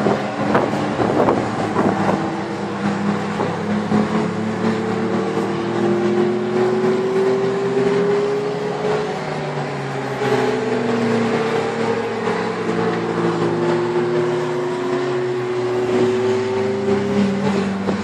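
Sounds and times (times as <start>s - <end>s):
sports cars driving past: 0.0s - 18.0s.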